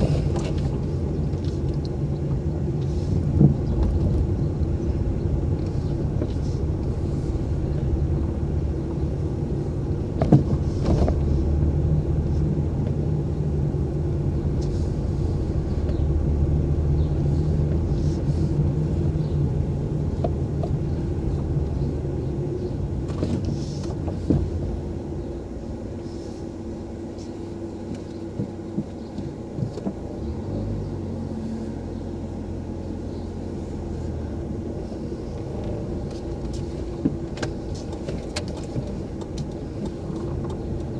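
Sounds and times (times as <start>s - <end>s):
car engine and road hum: 0.0s - 40.9s.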